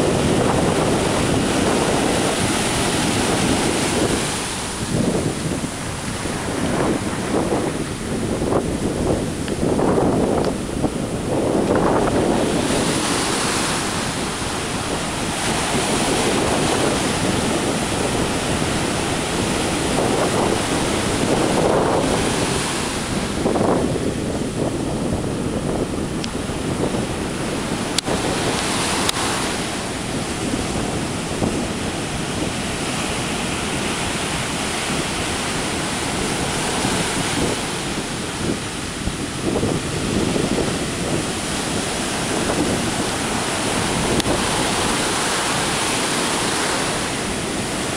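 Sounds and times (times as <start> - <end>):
ocean surf breaking: 0.0 - 47.9
wind buffeting microphone: 0.0 - 47.9.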